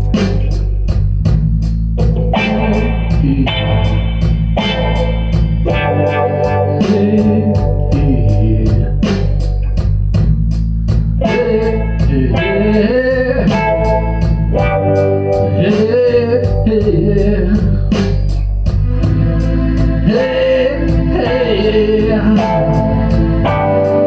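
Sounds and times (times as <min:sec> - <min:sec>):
bass: 0:00.0 - 0:24.0
organ: 0:00.0 - 0:24.0
steady drum beat: 0:00.0 - 0:24.0
electric guitar lead: 0:02.0 - 0:09.9, 0:11.2 - 0:18.2, 0:18.8 - 0:24.0.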